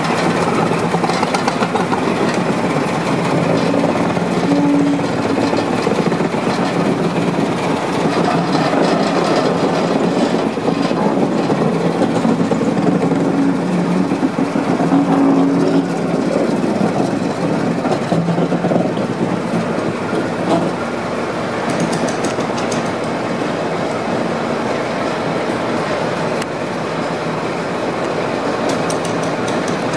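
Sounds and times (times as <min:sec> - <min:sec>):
diesel locomotive engine drone: 0:00.0 - 0:29.9.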